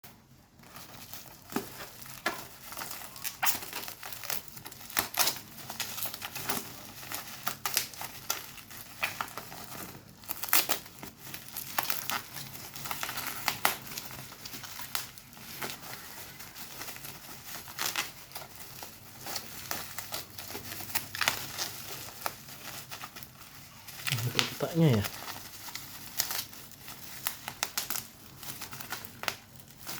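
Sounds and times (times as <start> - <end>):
packaging crinkling and rustling: 0.1 - 29.9.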